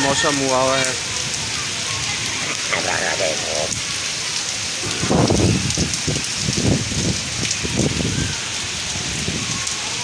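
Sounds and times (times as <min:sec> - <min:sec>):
heavy rain on street: 0:00.0 - 0:10.0.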